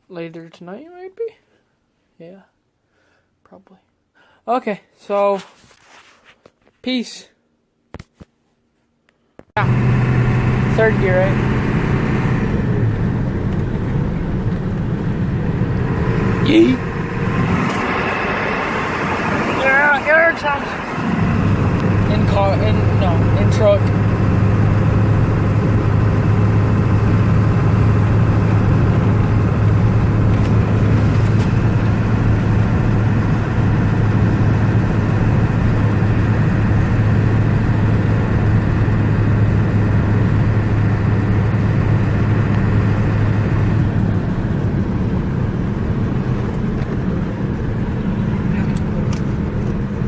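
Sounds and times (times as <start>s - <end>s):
truck engine running: 9.6s - 50.0s.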